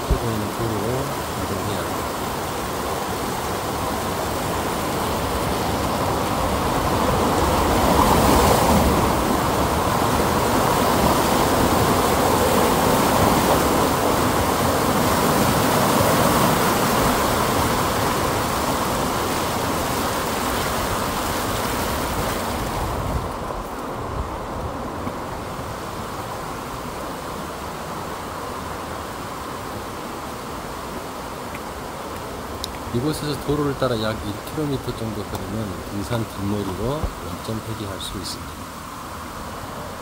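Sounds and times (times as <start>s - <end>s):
stream rushing over weir: 0.0s - 40.0s.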